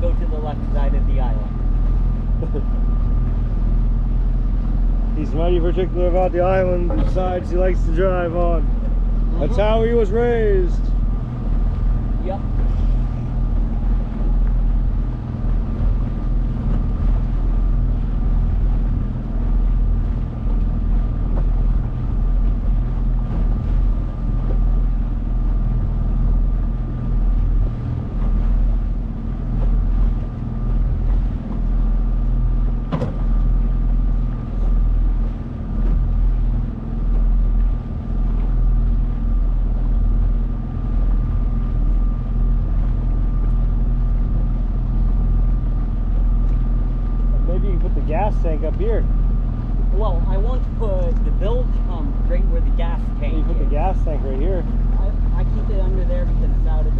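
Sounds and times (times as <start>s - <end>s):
outboard motor running: 0.0s - 56.9s.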